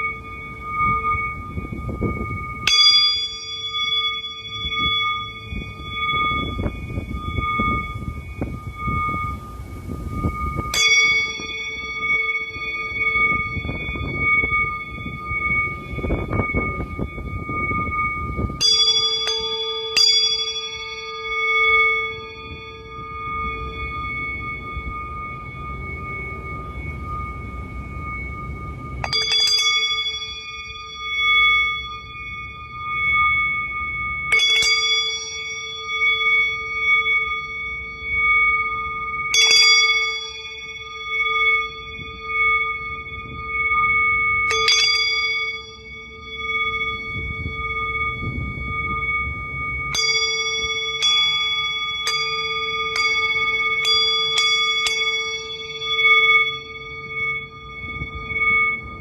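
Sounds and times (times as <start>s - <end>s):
high ringing tone: 0.0s - 59.0s
metal bells struck: 0.0s - 59.0s.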